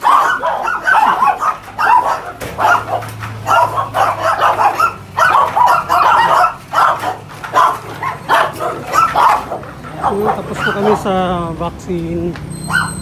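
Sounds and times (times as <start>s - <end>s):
dog barking: 0.0s - 11.4s, 12.6s - 13.0s.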